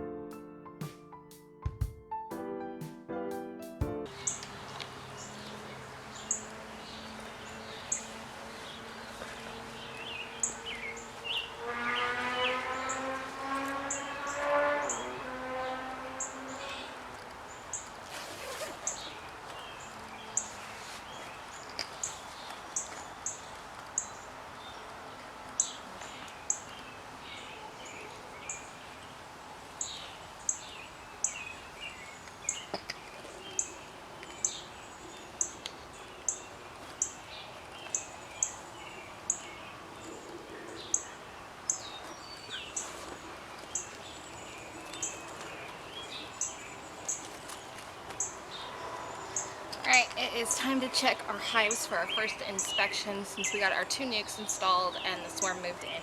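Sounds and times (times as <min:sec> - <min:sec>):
birds singing varied calls: 0:04.1 - 0:56.0
outdoor background hiss: 0:04.1 - 0:56.0.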